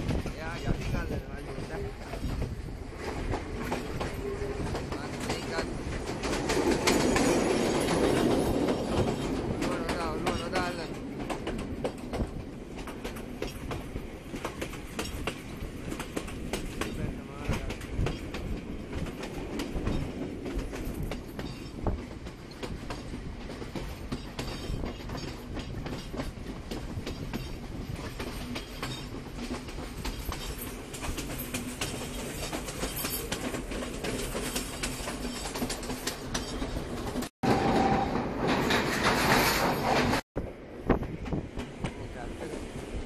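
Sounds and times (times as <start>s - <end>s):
train carriage rumble: 0.0s - 43.0s
wheels clattering over rails: 3.0s - 40.2s.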